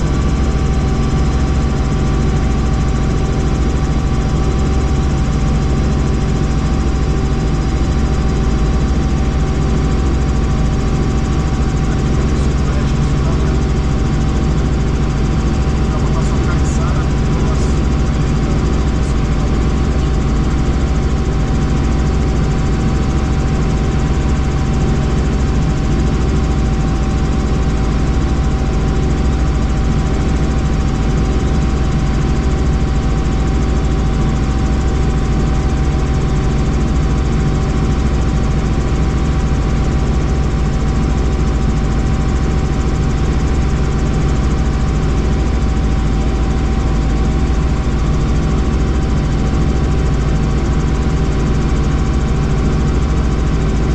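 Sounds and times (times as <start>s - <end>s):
helicopter in flight: 0.0s - 53.9s.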